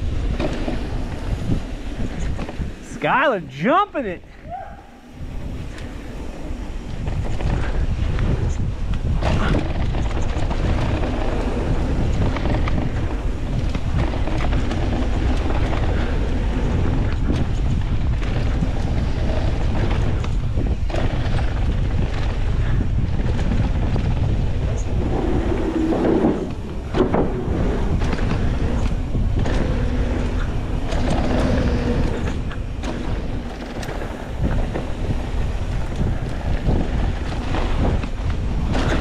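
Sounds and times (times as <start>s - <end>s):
bike rattling over bumps: 0.0s - 2.9s, 4.4s - 39.0s
tyres rolling on dirt: 0.0s - 4.0s, 5.0s - 39.0s
tyres on wooden boardwalk: 0.0s - 39.0s
wind buffeting microphone: 0.0s - 39.0s.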